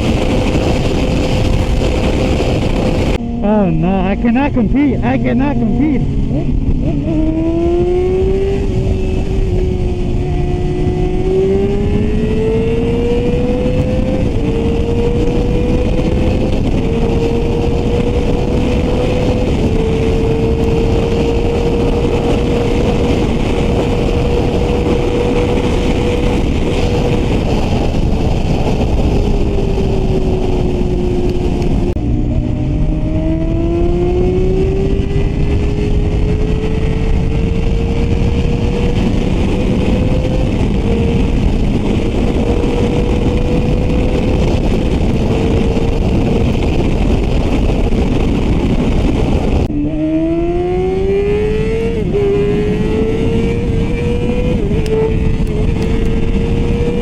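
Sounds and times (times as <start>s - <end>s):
motorcycle engine accelerating: 0.0s - 57.0s
wind rush on microphone: 0.0s - 57.0s.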